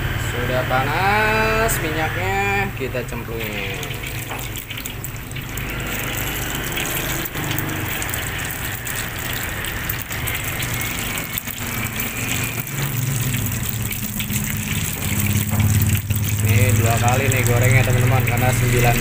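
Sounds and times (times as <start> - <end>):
patties sizzling in hot oil: 0.3 - 19.0.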